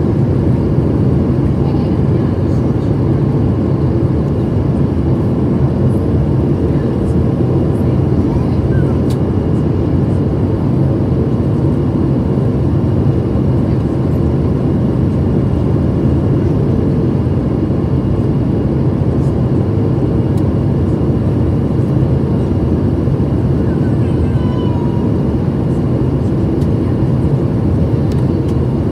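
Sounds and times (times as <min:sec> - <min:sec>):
airplane cabin drone: 0:00.0 - 0:28.9.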